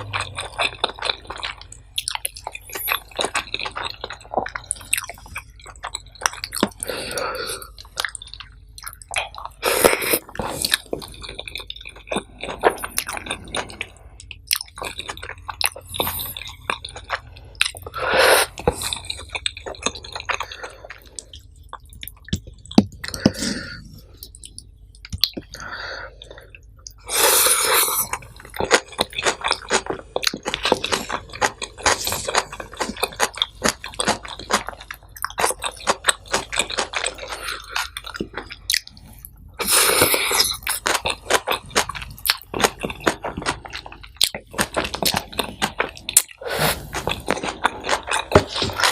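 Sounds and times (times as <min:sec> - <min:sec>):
wet chewing and mouth sounds: 0:00.0 - 0:48.9.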